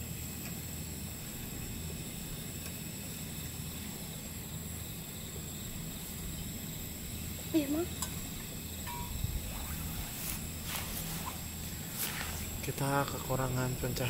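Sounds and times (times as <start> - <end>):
cricket trill: 0.0 - 14.0
low steady hiss: 0.0 - 14.0.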